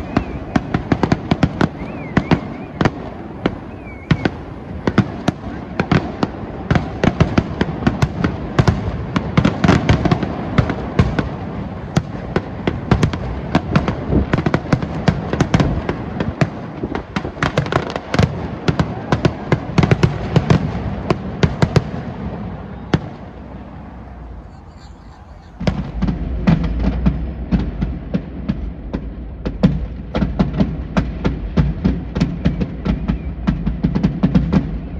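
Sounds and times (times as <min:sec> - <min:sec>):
fireworks popping and crackling: 0:00.0 - 0:34.9.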